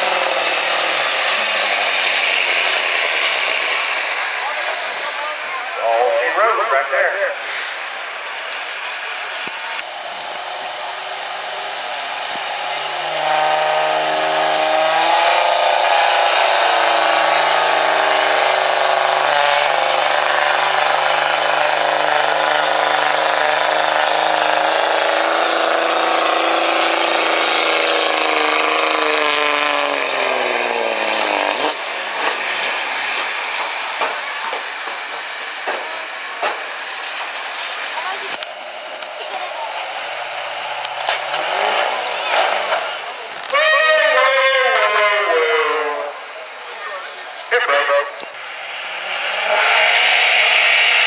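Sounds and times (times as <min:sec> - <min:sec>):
diesel truck engine at full throttle: 0:00.0 - 0:51.0.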